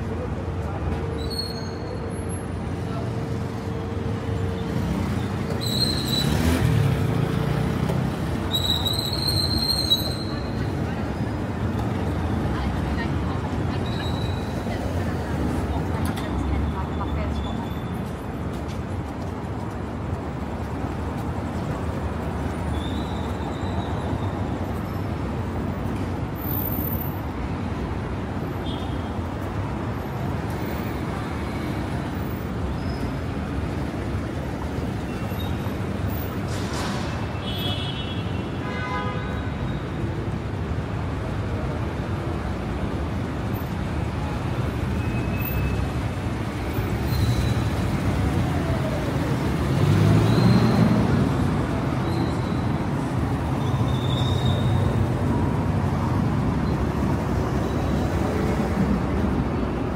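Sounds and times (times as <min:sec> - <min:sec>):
passing cars: 0:02.0 - 0:59.9.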